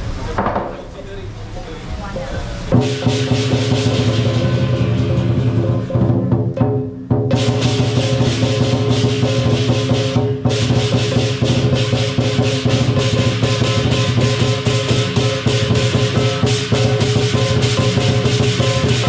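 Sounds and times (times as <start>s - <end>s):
big drum beating: 0.0s - 19.0s
cymbals crashing: 0.0s - 19.0s
gong: 2.3s - 19.0s.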